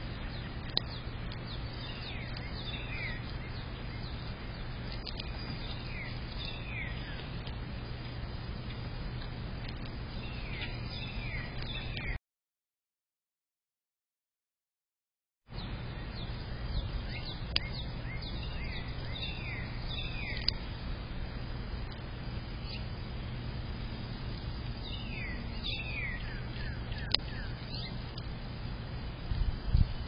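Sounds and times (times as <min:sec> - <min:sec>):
low background hum: 0:00.0 - 0:12.2, 0:15.5 - 0:30.0
small birds chirping: 0:00.0 - 0:12.2, 0:15.5 - 0:30.0.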